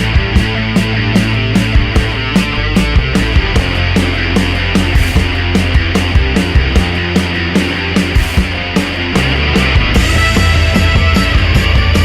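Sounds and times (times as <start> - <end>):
distorted guitar: 0.0 - 12.0
rock drum beat: 0.0 - 12.0.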